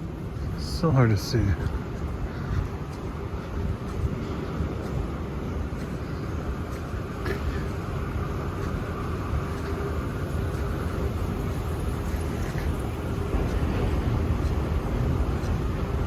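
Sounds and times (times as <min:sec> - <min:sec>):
vehicle rumble in motion: 0:00.0 - 0:16.0.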